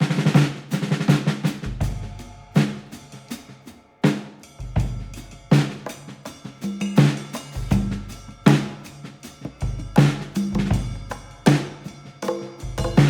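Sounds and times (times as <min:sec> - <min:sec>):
drum-kit beat: 0:00.0 - 0:13.0.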